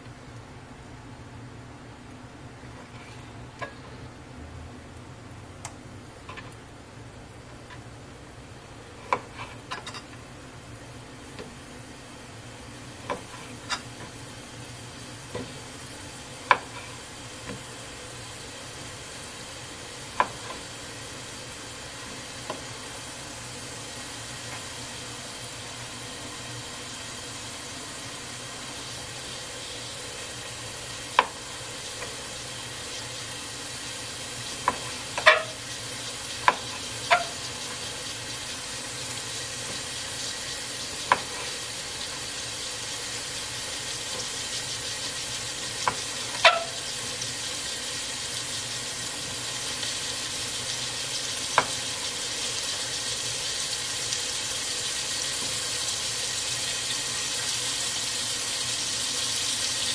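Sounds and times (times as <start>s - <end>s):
chicken sizzling in hot oil: 8.6s - 59.9s.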